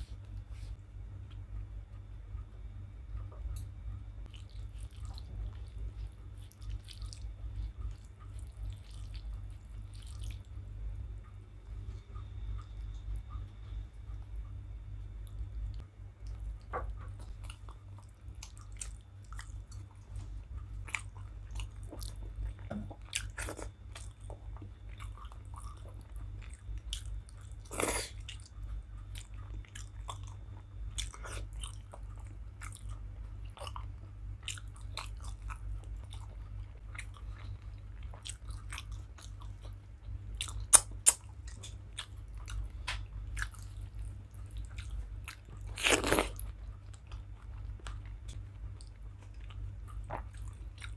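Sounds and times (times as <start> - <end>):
steady low hum: 0.0 - 50.9
person chewing food: 3.6 - 14.3, 15.2 - 50.9.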